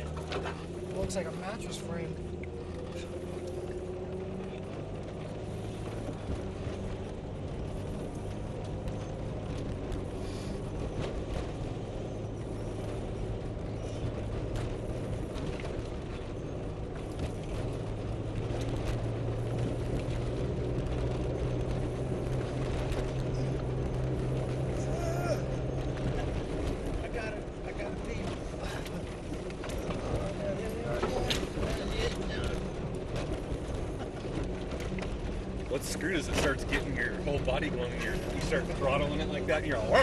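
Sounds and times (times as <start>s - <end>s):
knocks and rattles over bumps: 0.0s - 40.0s
truck engine running: 0.0s - 40.0s.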